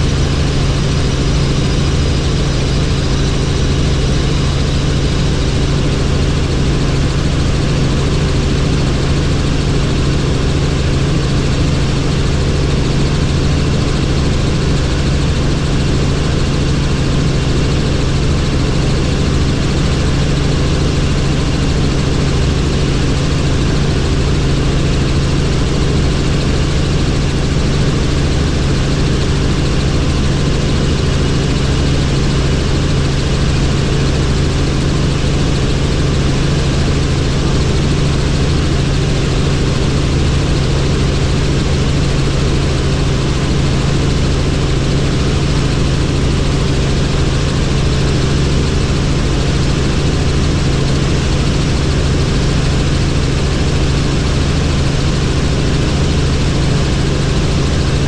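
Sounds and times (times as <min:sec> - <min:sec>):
helicopter drone: 0:00.0 - 0:58.0.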